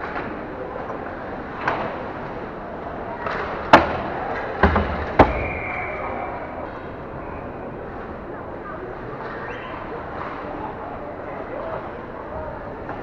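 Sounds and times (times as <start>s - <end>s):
arena noise: 0.0s - 13.0s.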